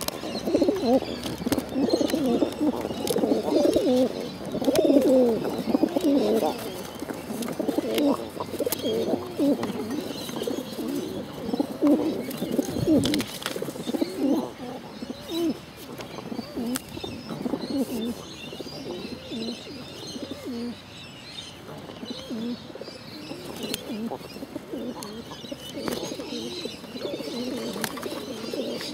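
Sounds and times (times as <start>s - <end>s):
pigeons cooing: 0.0s - 28.9s.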